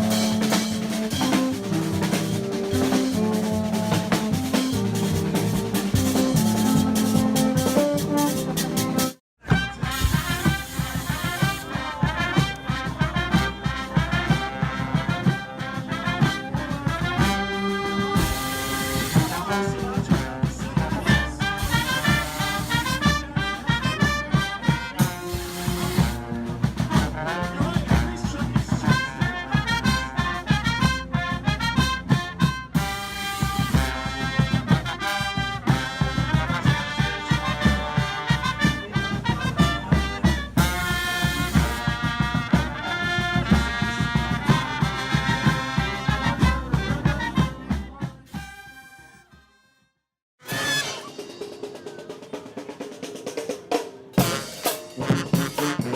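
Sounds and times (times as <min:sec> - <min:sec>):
steady drum beat: 0:00.0 - 0:48.9, 0:50.4 - 0:55.9
brass band playing: 0:00.0 - 0:49.8, 0:50.4 - 0:55.9.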